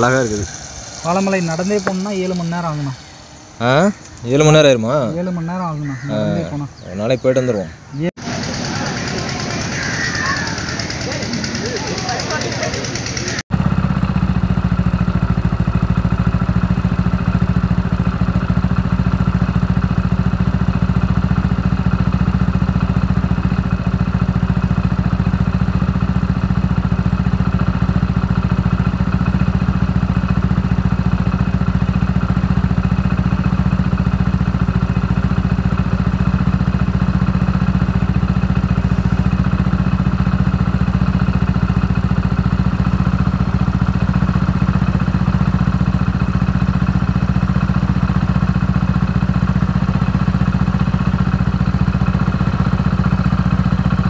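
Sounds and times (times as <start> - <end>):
motorboat engine droning: 0.0 - 54.0.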